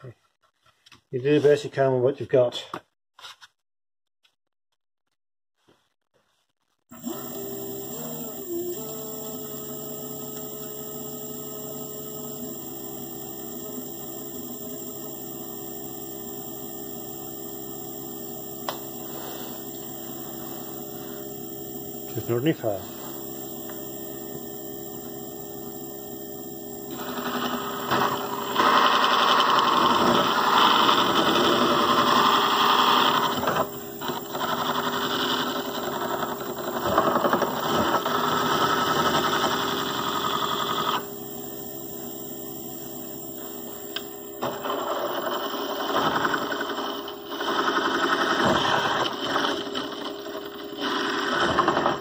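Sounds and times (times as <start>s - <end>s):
electric motor spinning: 6.9s - 52.0s.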